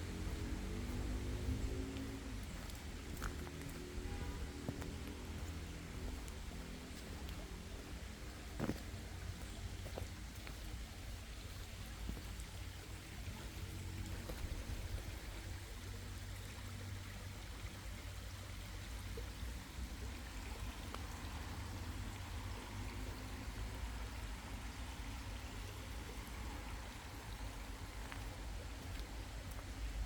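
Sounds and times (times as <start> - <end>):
stream water flowing: 0.0 - 30.0.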